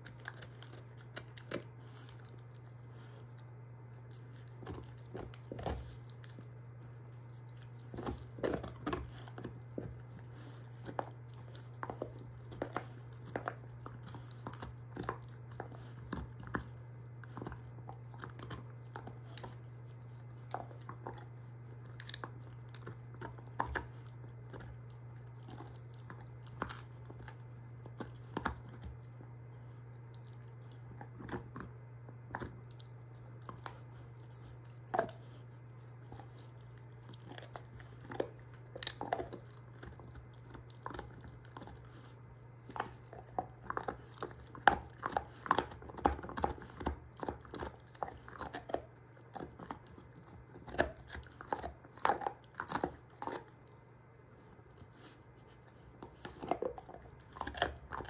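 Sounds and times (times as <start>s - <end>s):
dog chewing on a bone: 0.0s - 58.0s
low background hum: 0.0s - 58.0s.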